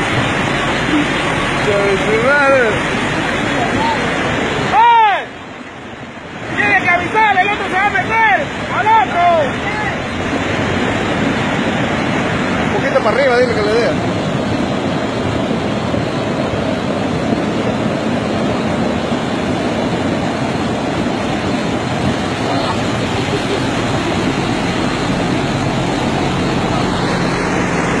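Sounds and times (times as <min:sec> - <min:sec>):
muddy torrent rushing: 0:00.0 - 0:28.0.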